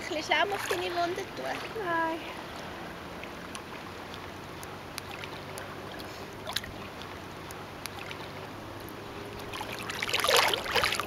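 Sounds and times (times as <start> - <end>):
sea water lapping and sloshing: 0.0 - 11.0
small water splash: 0.0 - 11.0.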